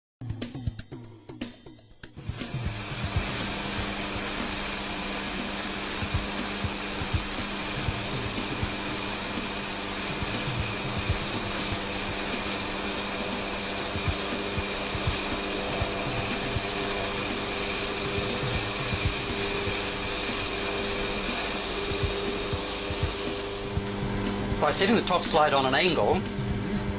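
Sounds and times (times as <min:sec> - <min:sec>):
cutter scraping wood: 0:02.2 - 0:26.4
lathe motor hum and whine: 0:02.2 - 0:26.9.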